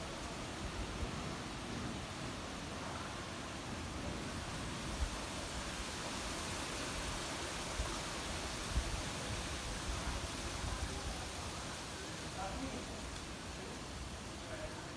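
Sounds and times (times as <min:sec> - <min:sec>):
wind rushing through trees: 0:00.0 - 0:14.9.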